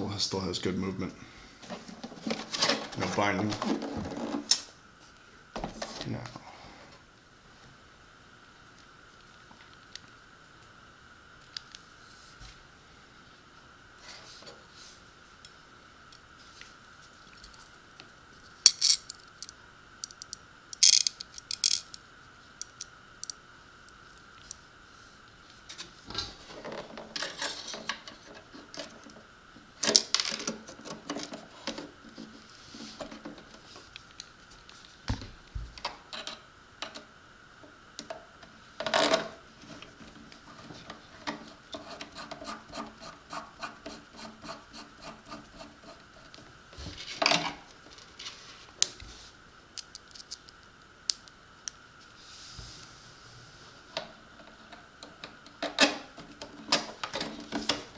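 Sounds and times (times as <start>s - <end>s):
faint high hum: 0.0s - 57.9s.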